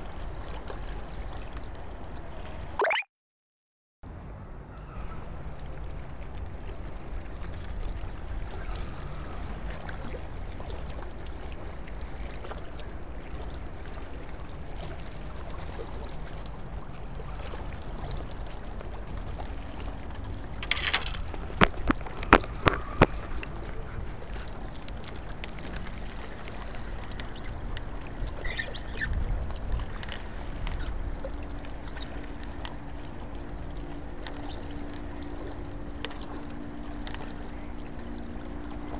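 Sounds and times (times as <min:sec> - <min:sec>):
wind: 0:00.0 - 0:03.1, 0:04.0 - 0:38.9.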